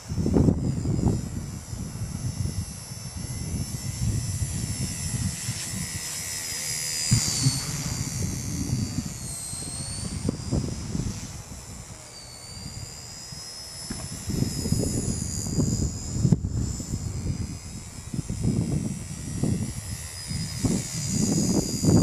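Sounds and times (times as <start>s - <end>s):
wind buffeting microphone: 0.0s - 6.1s, 7.0s - 11.9s, 13.9s - 22.0s
rc helicopter whine: 0.0s - 22.0s.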